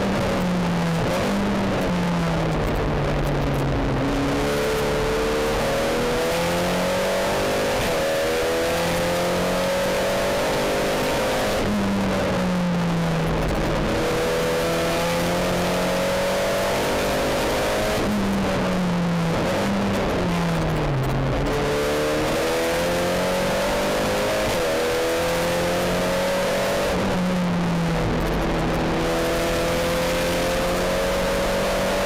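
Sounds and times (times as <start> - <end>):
race car engine at full throttle: 0.0 - 32.0.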